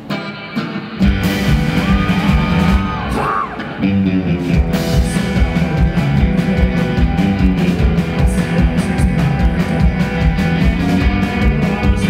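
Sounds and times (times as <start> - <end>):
live country-rock band: 0.0 - 12.0.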